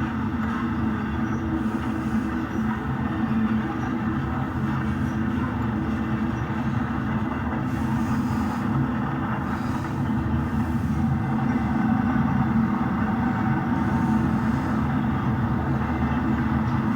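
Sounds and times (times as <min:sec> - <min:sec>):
model train humming on track: 0:00.0 - 0:16.9.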